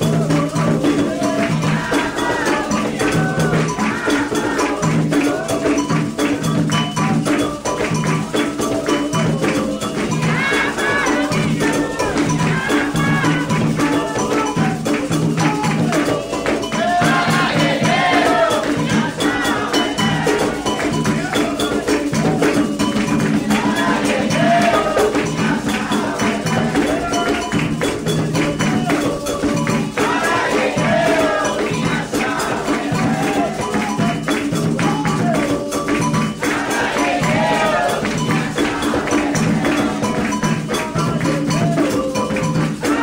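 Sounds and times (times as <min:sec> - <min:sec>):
hand drums beating: 0:00.0 - 0:43.0
shaken percussion: 0:00.0 - 0:43.0
voices singing a chant: 0:00.0 - 0:43.0.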